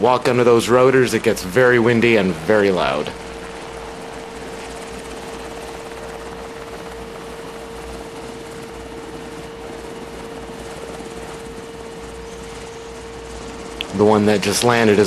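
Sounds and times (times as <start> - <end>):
helicopter rumble: 0.0 - 15.0
high whine: 0.0 - 15.0.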